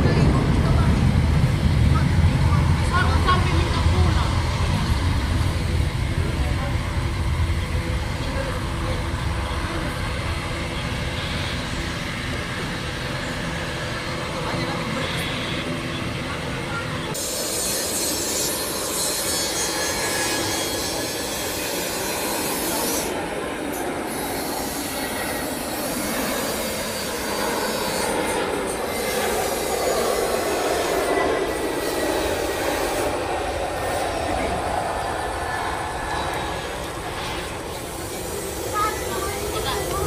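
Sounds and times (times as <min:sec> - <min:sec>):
jet engines whining: 0:00.0 - 0:40.0.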